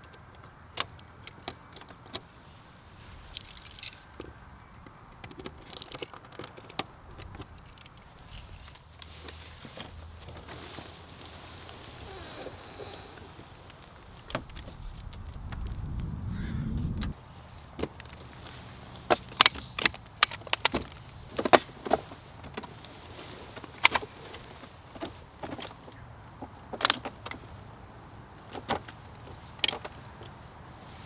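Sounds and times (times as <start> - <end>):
clicks and rattles handling tent ladder: 0.0 - 15.7, 17.6 - 30.6.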